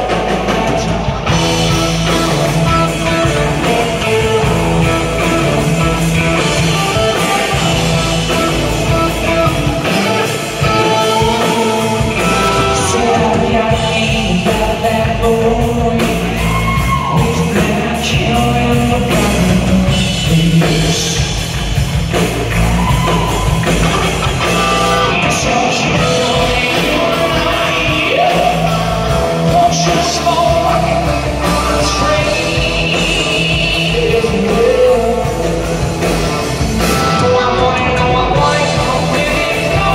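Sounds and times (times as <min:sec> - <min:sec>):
lead singer vocals: 0:00.0 - 0:21.8, 0:22.5 - 0:39.9
bass guitar: 0:00.0 - 0:39.9
drum kit: 0:00.0 - 0:39.9
electric guitars: 0:00.0 - 0:39.9.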